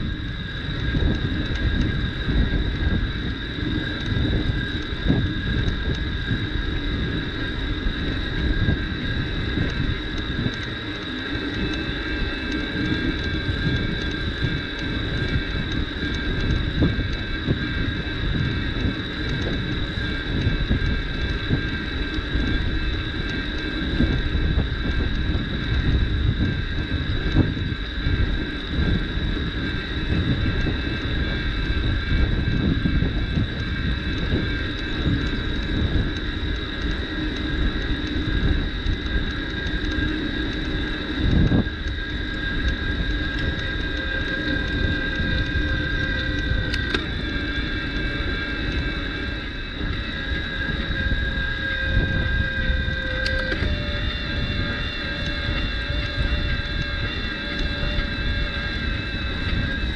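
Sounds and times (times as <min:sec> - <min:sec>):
bicycle tyres rumbling on gravel: 0:00.0 - 0:59.9
high whine: 0:00.0 - 0:59.9
wind on microphone: 0:00.0 - 0:59.9.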